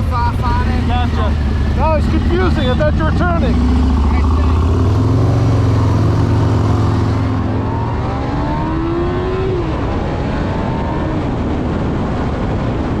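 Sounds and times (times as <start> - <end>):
motorcycle engine revving: 0.0 - 13.0
wind and road noise: 0.0 - 13.0.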